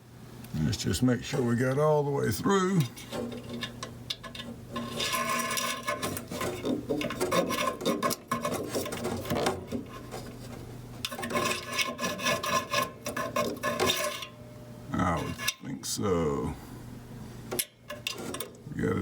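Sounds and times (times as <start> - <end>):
low steady hum: 0.0 - 19.0
metal scraping and rasping: 1.2 - 14.4, 15.0 - 15.8, 17.6 - 19.0.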